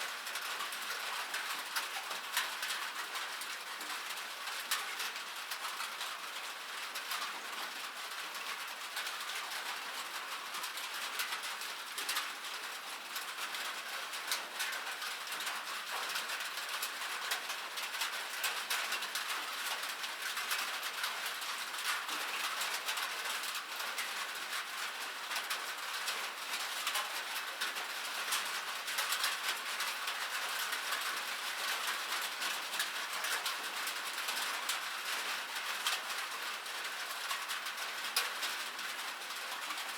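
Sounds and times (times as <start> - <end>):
rain falling on metal: 0.0 - 39.9.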